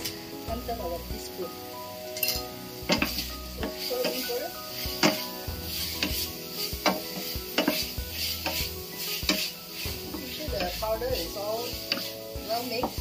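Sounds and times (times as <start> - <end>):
light sizzle: 0.0 - 13.0
wooden spatula scraping a pan: 2.4 - 13.0.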